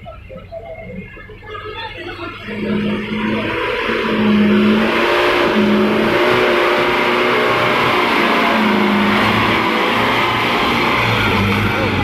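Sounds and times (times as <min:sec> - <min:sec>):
excavator diesel engine revving: 0:00.0 - 0:12.0
truck engine pulling through mud: 0:02.2 - 0:12.0.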